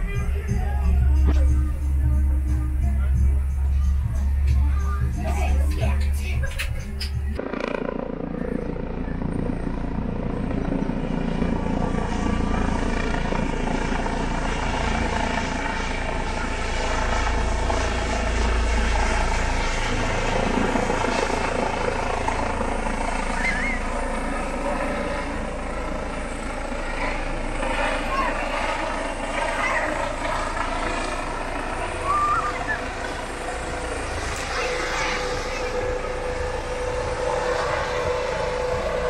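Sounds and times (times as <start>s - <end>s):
helicopter flying overhead: 0.0s - 39.0s.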